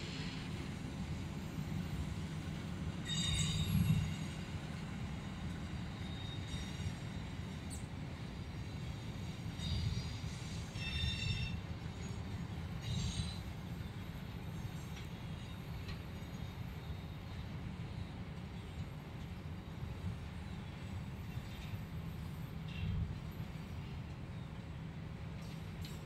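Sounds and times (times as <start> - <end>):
wheels squealing on rails: 0.0 - 26.0.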